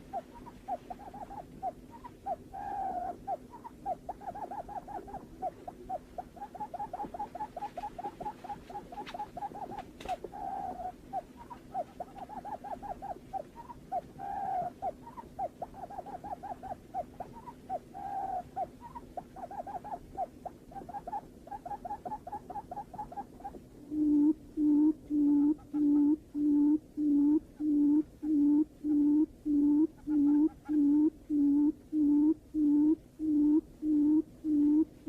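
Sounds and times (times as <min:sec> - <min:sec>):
buttonquail calling: 0:00.0 - 0:34.9
low steady hum: 0:00.0 - 0:35.0.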